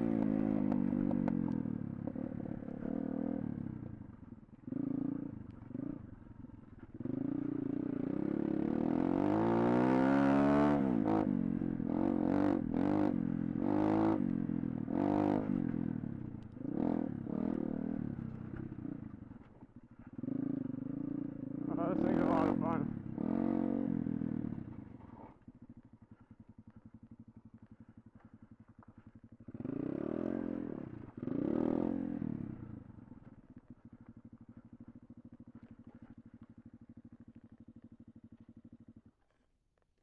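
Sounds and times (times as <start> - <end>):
pit bike engine revving: 0.0 - 3.9, 4.6 - 19.2, 20.0 - 25.3, 28.9 - 38.7.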